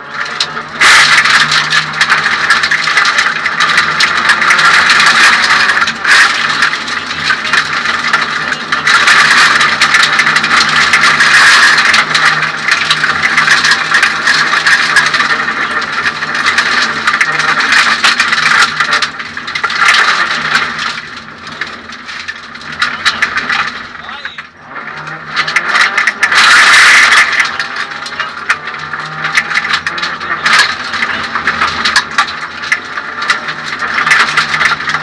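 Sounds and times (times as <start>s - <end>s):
clattering and rattling: 0.0s - 35.0s
rally car engine running: 0.0s - 35.0s
road and gravel noise: 0.0s - 35.0s.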